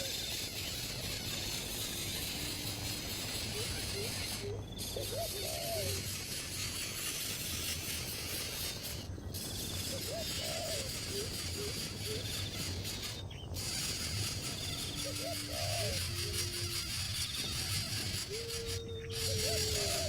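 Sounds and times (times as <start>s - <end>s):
faint insect-like rasp: 0.0s - 20.0s
low hooting bird calls: 0.0s - 20.0s.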